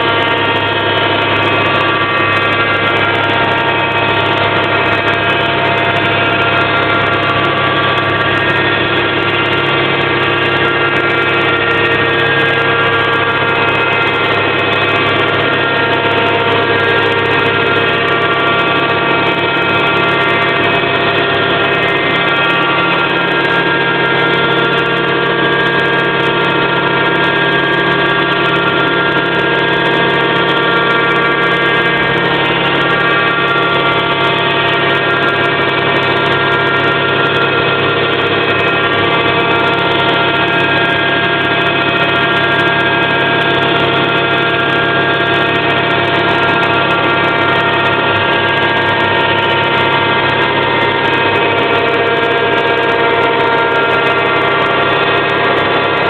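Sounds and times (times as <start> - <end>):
milling machine humming: 0.0 - 56.0.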